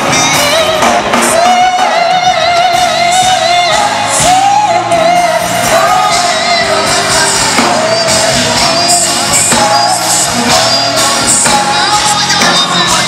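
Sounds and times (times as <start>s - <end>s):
live band playing: 0.0s - 13.0s
man singing into a microphone: 0.0s - 13.0s.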